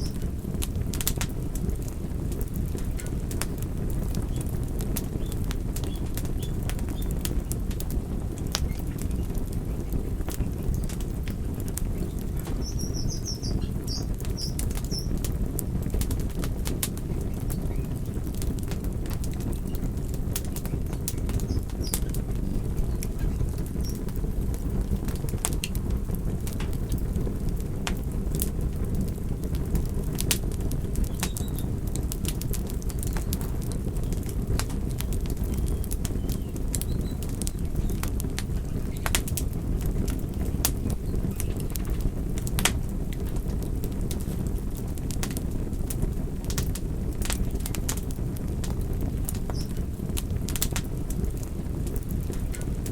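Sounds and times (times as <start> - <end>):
low rumble of flames: 0.0 - 52.9
wood fire crackling: 0.0 - 52.9.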